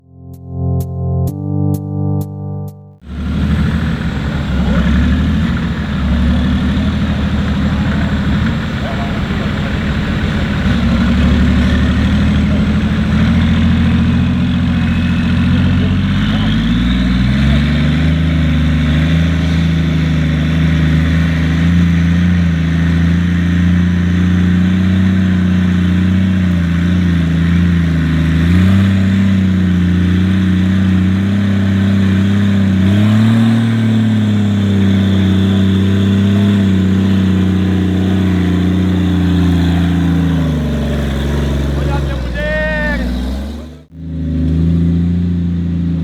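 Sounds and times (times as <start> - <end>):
off-road vehicle engine running: 3.0 - 46.0.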